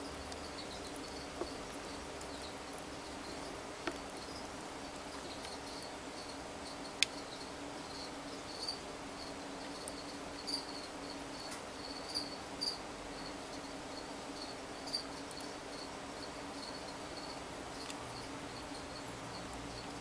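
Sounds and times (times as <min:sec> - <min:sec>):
high insect chirps: 0:00.0 - 0:20.0.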